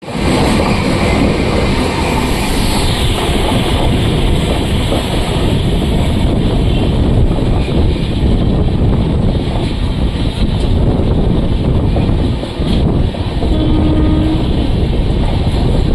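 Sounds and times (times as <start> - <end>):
train rumbling: 0.0 - 15.9
wind buffeting microphone: 0.1 - 15.9.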